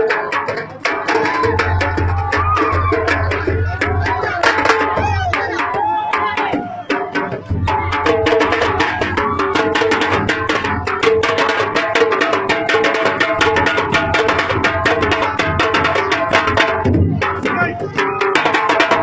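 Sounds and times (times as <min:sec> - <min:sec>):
hand drums fast rhythm: 0:00.0 - 0:19.0.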